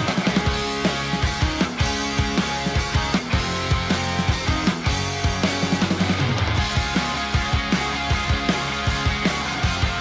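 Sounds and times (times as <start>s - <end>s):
driving drum beat: 0.0s - 10.0s
electric guitar: 0.0s - 10.0s.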